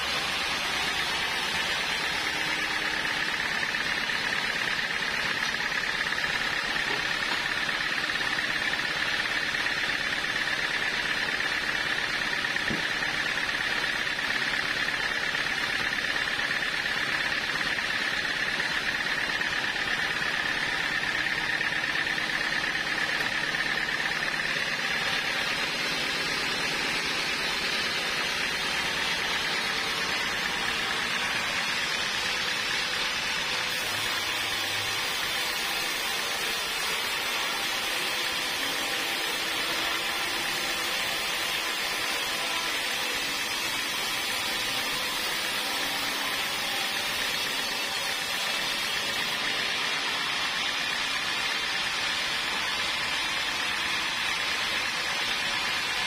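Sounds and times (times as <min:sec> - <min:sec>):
band saw cutting log: 0:00.0 - 0:56.0
sawmill machine running: 0:00.0 - 0:56.0.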